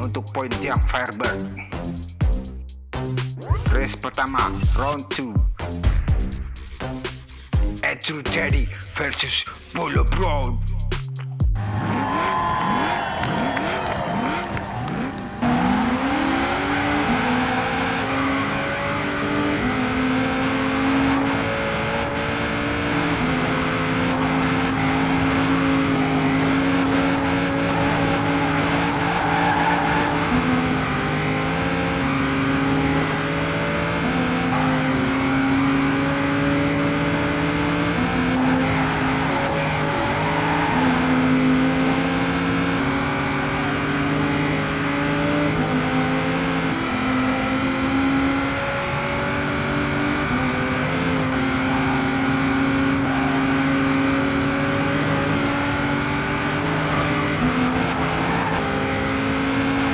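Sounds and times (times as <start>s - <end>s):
race car engine revving: 11.6s - 59.9s.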